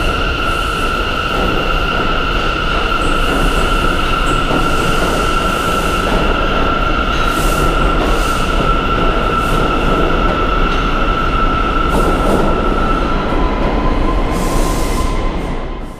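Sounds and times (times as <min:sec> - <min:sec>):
subway train rumble: 0:00.0 - 0:15.9.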